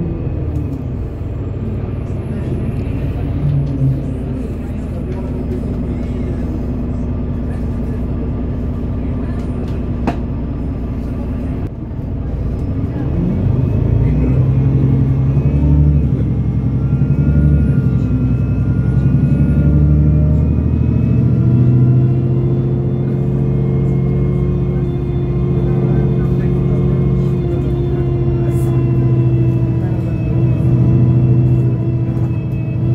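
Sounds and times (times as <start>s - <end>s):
bus engine revving: 0.0s - 32.9s.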